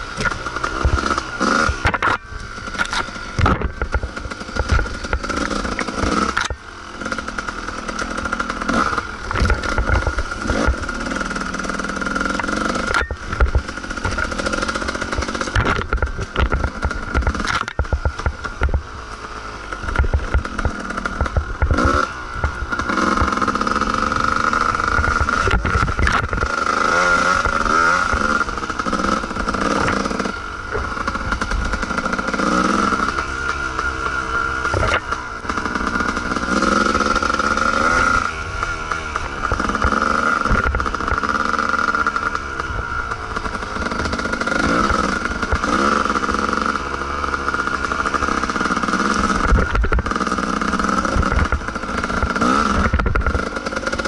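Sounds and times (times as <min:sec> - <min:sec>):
chassis rattling over bumps: 0:00.0 - 0:54.0
dirt bike engine revving: 0:00.0 - 0:54.0.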